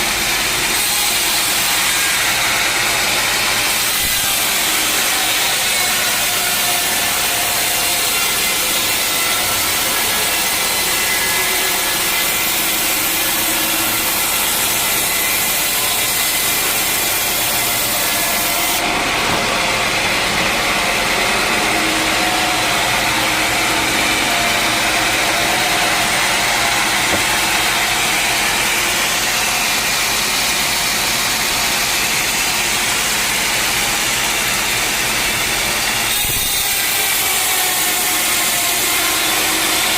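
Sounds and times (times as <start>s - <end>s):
band saw blade cutting wood: 0.0s - 39.9s
sawmill engine running: 0.0s - 39.9s.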